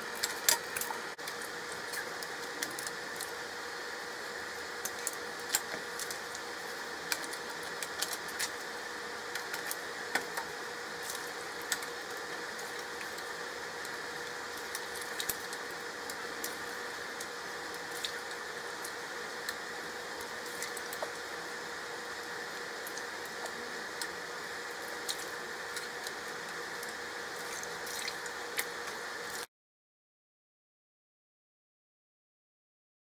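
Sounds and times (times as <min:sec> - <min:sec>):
background hum: 0:00.0 - 0:29.5.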